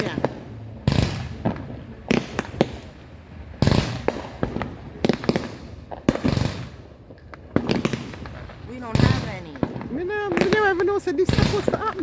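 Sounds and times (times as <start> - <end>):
loud firework bangs: 0.0 - 12.0
small firework cracks: 0.0 - 12.0.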